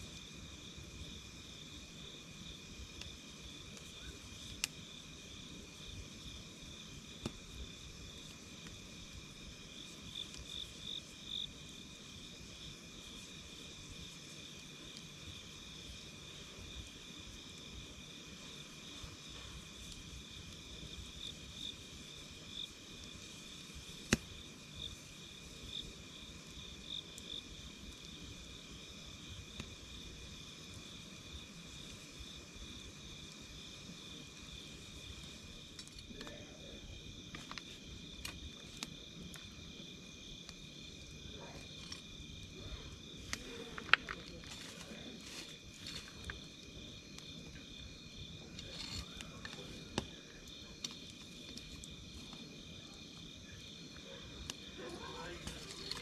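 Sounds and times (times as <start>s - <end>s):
campfire pops and crackles: 0.0s - 56.0s
night insects trilling: 0.0s - 56.0s.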